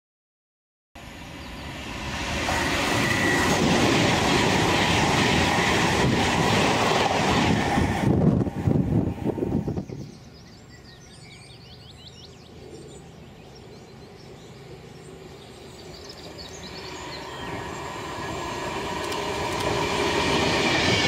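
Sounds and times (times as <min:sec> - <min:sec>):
electric train passing at speed: 0:01.0 - 0:21.0.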